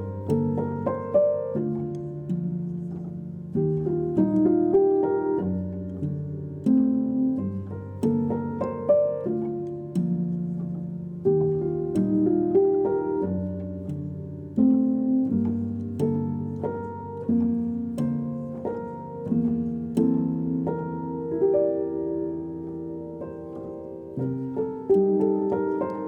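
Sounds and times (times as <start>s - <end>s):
slow solo piano piece: 0.0s - 26.0s.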